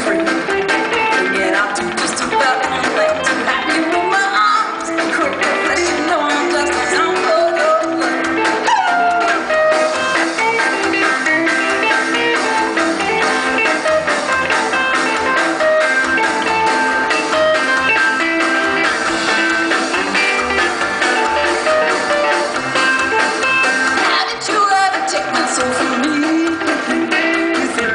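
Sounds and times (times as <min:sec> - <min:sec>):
electric guitar lead line: 0:00.0 - 0:27.9
rock band playing: 0:00.0 - 0:27.9.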